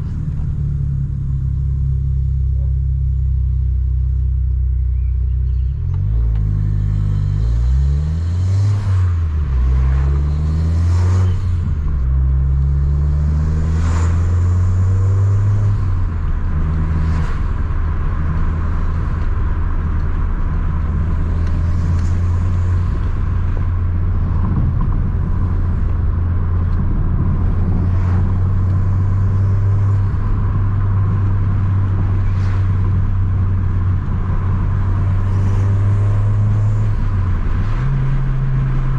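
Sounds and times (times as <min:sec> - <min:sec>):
car engine revving: 0:05.7 - 0:38.9.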